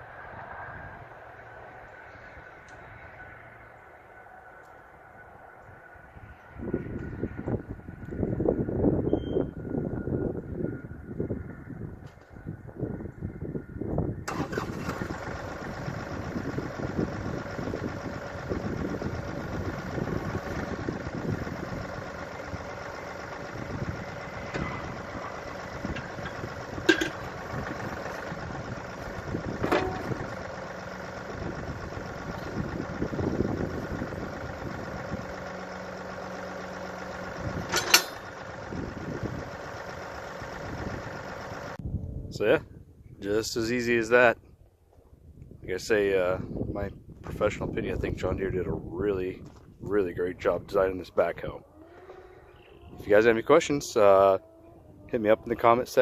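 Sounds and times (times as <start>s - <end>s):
diesel tractor engine running: 0.0s - 42.5s, 46.0s - 56.0s.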